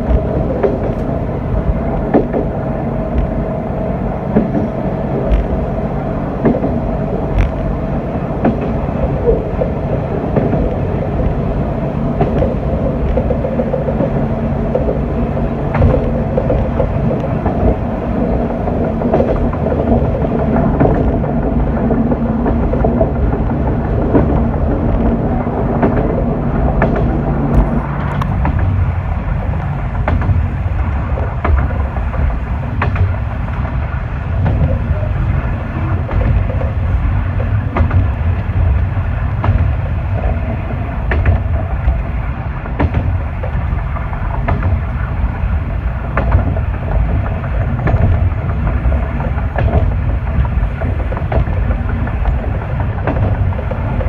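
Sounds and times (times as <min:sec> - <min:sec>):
diesel engine drone: 0:00.0 - 0:54.0
wheels clicking over rail joints: 0:00.0 - 0:54.0.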